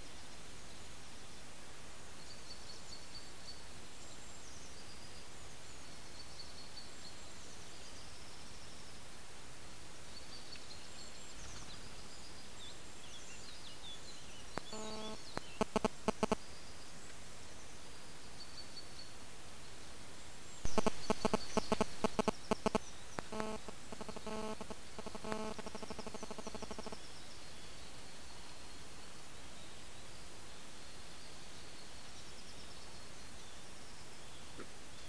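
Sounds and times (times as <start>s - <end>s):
small birds chirping faintly: 0.0s - 35.0s.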